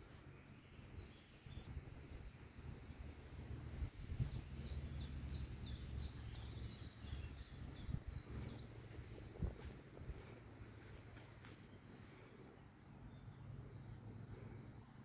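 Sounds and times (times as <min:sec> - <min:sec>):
low steady rumble: 0:00.3 - 0:15.0.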